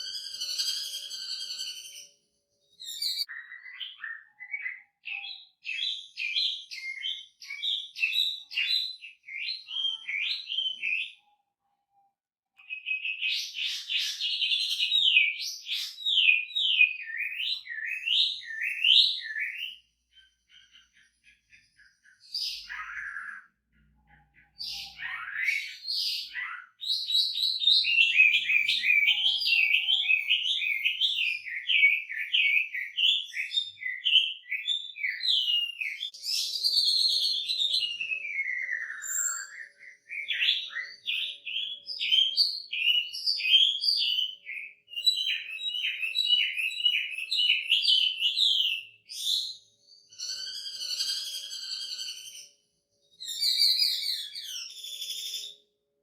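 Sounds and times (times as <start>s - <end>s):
bird singing varied song: 0.0s - 55.8s.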